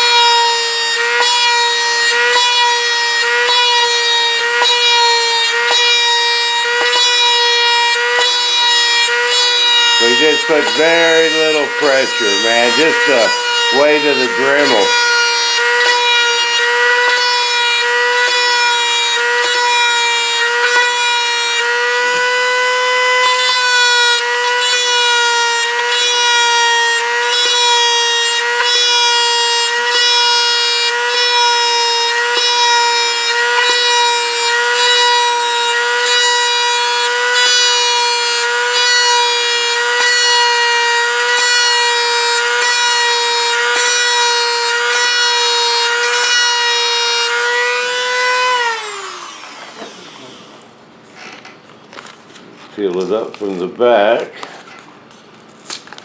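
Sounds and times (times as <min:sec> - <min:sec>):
rotary tool whining: 0:00.0 - 0:52.4.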